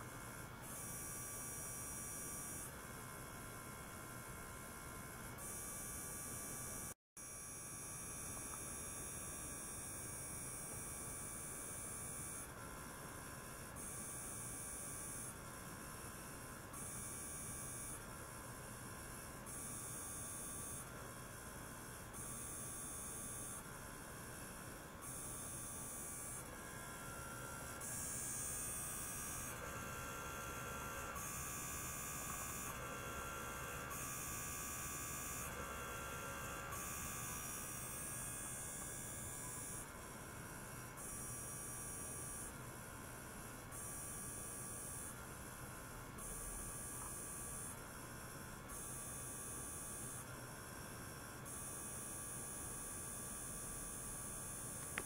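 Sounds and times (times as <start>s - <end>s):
electronic hum: 0.0s - 55.0s.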